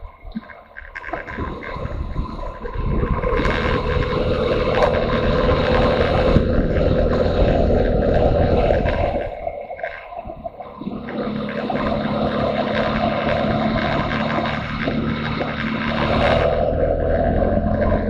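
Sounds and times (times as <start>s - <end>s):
wind rushing over microphone: 0.0s - 18.0s
motorcycle engine running: 1.2s - 18.0s.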